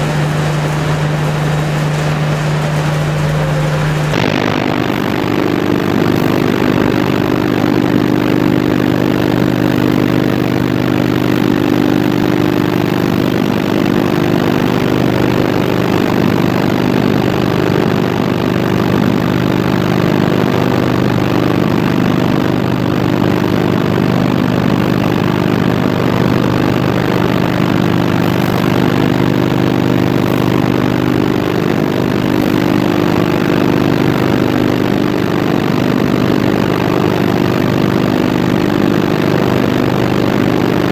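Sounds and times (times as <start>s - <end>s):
shredding machinery drone: 0.0s - 40.9s.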